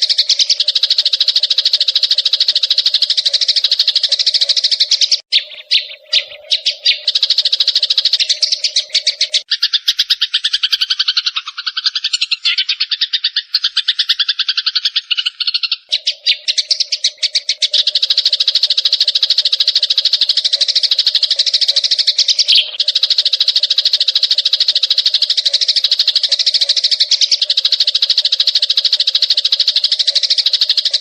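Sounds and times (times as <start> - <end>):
sparrows chirping: 0.0 - 31.0.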